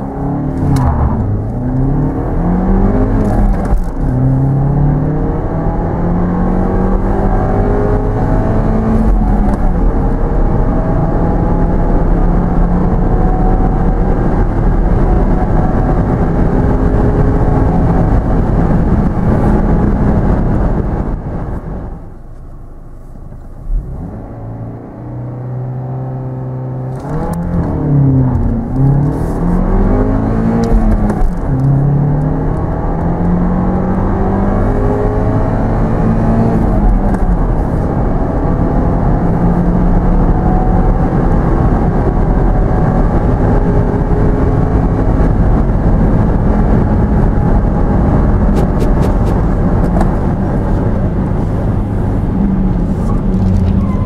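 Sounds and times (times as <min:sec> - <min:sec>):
tyre and wind roar: 0:00.0 - 0:22.4, 0:23.8 - 0:54.0
car engine accelerating: 0:00.0 - 0:54.0.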